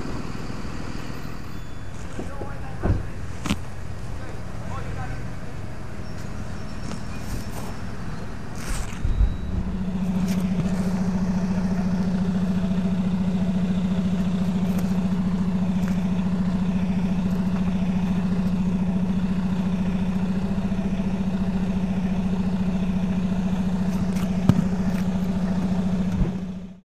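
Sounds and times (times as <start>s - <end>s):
heavy truck engine droning: 0.0s - 26.8s.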